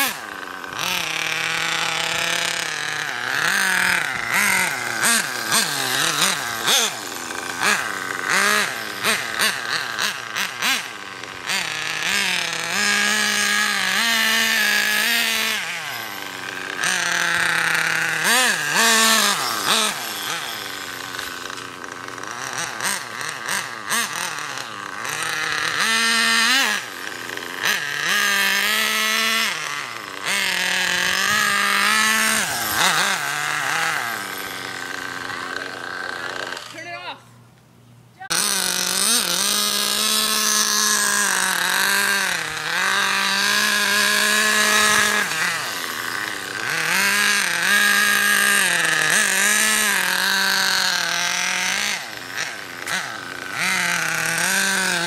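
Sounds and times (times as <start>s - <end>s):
model car engine revving: 0.0s - 37.2s, 38.2s - 55.0s.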